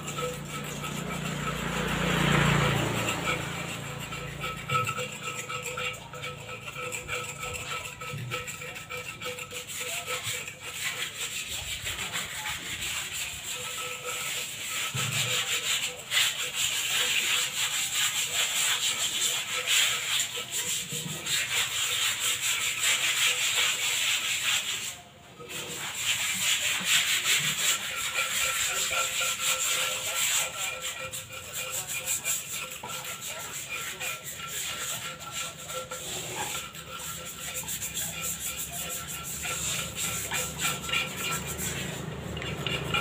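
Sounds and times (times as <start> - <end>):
hand scrubbing cement pots: 0.0 - 43.0.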